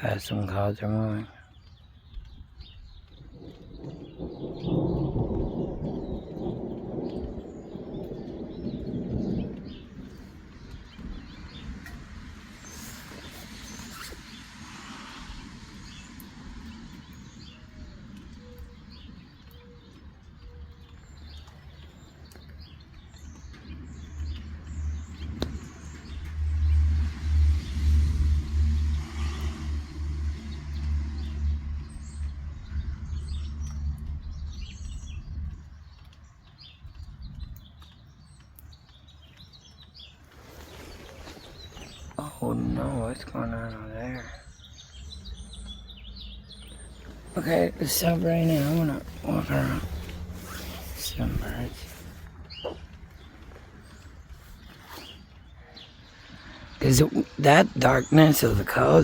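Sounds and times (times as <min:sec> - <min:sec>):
small birds chirping: 0:00.0 - 0:59.0
vehicle engine rumble passing: 0:00.8 - 0:37.0, 0:38.6 - 0:59.0.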